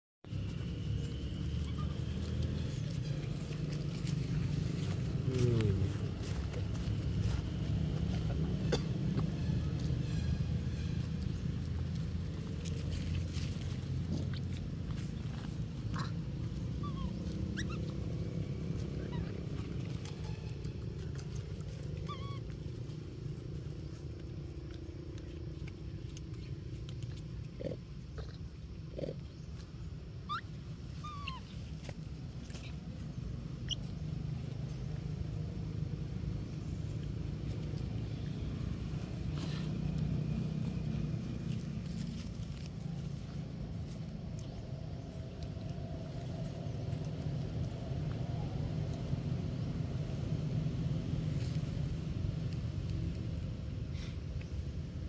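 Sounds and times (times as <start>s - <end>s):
low outdoor rumble: 0.2s - 55.0s.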